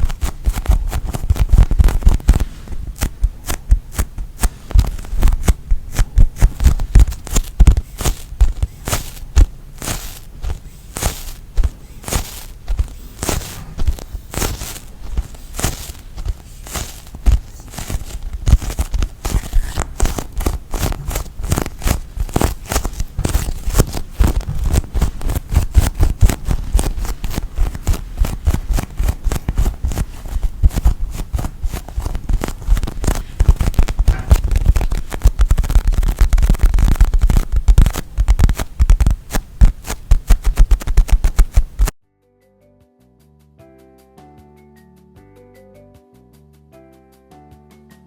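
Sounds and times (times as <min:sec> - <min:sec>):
soft low thumps: 0:00.0 - 0:42.0
squeeze toy crackling and squishing: 0:00.0 - 0:42.0.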